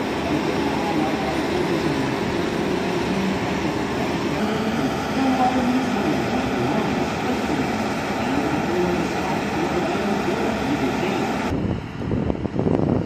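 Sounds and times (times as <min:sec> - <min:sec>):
loud steady mechanical noise: 0:00.0 - 0:13.0
low gusty rumble: 0:00.0 - 0:13.0.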